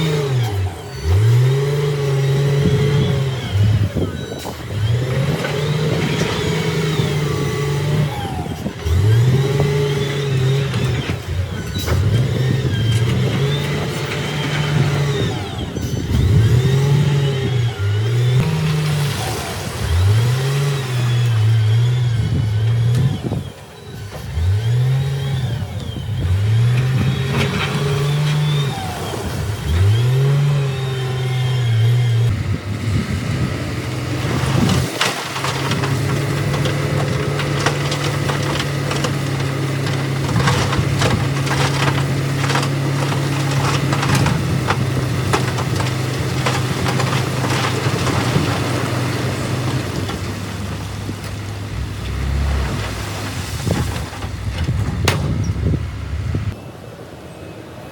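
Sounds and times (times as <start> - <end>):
diesel engine revving: 0.0 - 56.6.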